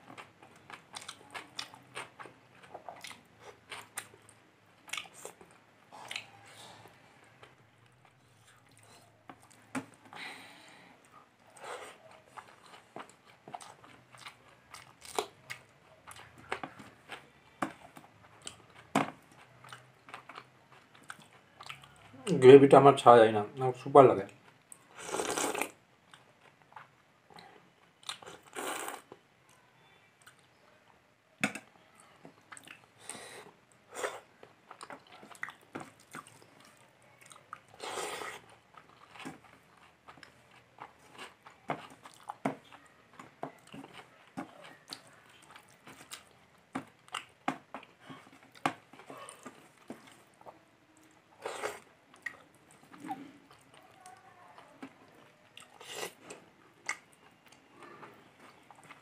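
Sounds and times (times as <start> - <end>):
person chewing with mouth smacks: 0.0 - 10.2, 11.0 - 22.4, 24.4 - 30.6, 31.5 - 59.0.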